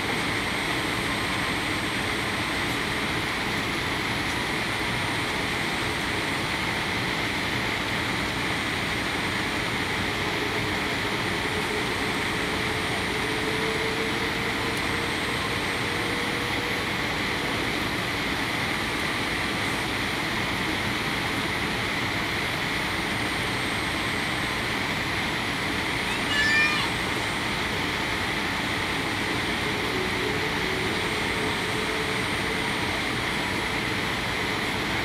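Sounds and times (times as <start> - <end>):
aircraft cabin engine rush: 0.0 - 35.0.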